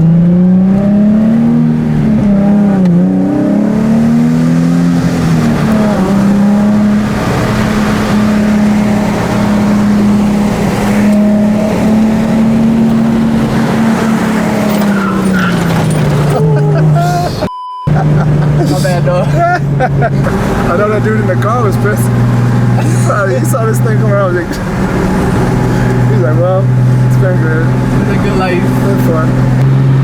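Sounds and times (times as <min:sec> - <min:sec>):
car engine revving high: 0:00.0 - 0:30.0
road noise: 0:00.0 - 0:30.0.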